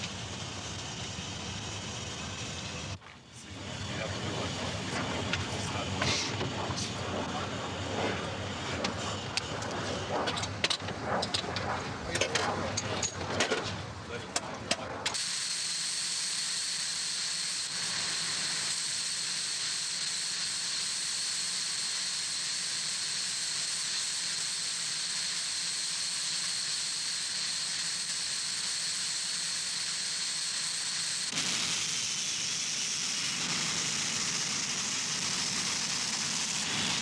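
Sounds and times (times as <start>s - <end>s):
steady hiss: 0.0s - 9.5s, 15.2s - 37.0s.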